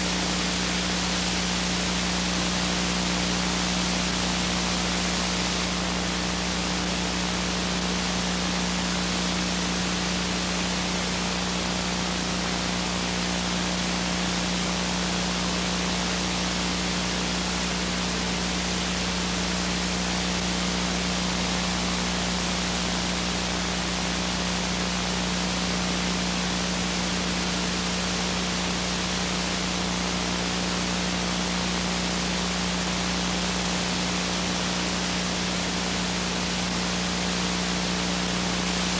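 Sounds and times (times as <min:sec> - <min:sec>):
tape hiss and static: 0:00.0 - 0:38.9.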